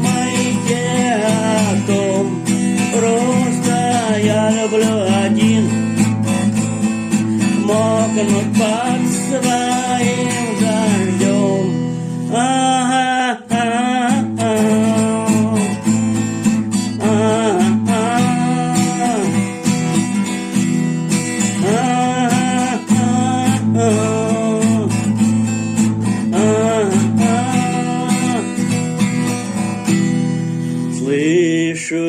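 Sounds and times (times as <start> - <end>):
strummed acoustic guitar: 0.0 - 32.0.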